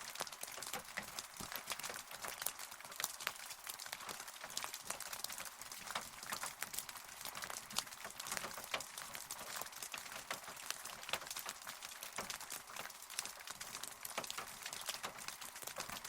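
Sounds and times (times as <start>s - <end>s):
rain falling: 0.0s - 16.0s
raindrop ticks: 0.0s - 16.0s.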